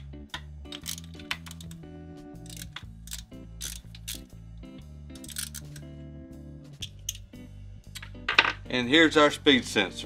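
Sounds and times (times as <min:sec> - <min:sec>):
instrumental music with low notes: 0:00.0 - 0:10.0.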